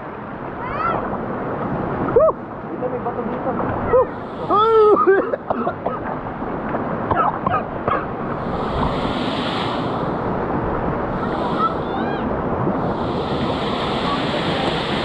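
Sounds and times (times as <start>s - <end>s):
water rushing from waterfall: 0.0s - 15.0s.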